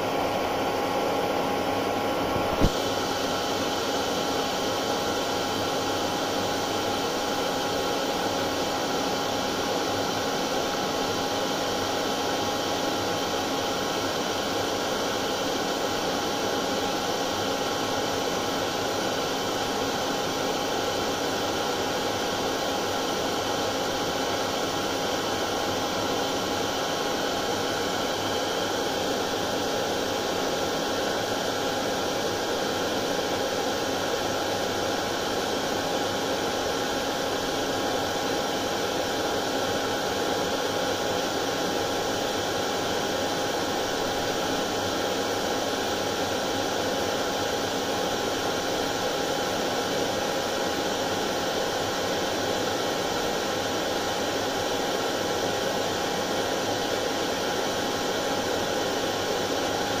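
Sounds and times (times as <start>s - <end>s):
hair dryer running: 0.0s - 60.0s.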